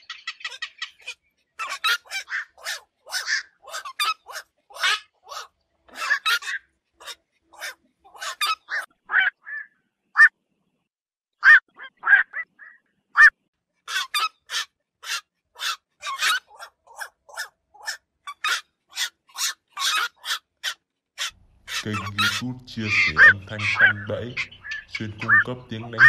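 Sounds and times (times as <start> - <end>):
herons calling harshly: 0.0 - 10.3, 11.4 - 26.0.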